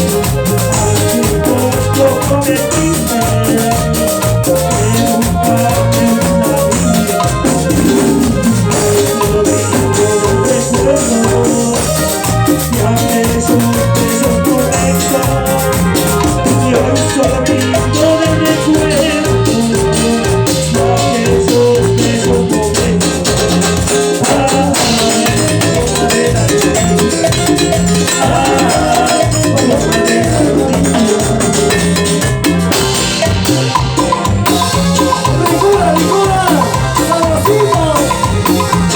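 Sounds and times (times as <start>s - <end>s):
instrumental latin dance music: 0.0s - 38.9s.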